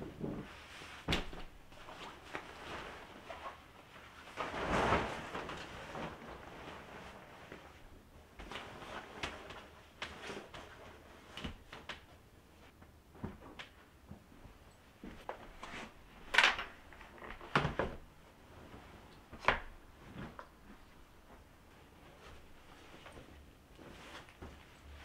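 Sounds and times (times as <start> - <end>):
bedding rustling: 0.0 - 25.0.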